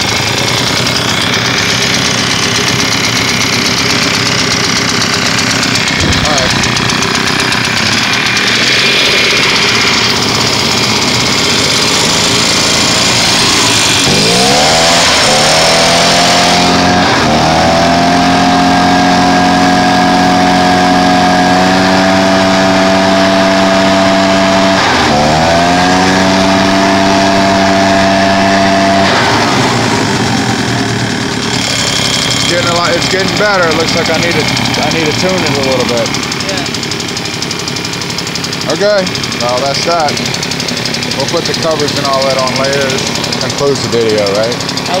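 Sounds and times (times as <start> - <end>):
two-stroke blower engine revving: 0.0 - 45.0.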